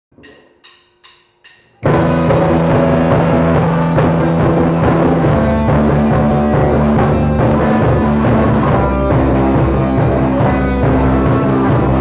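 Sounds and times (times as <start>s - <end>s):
electric guitar playing along: 1.8s - 12.0s
loud rock music: 1.8s - 12.0s.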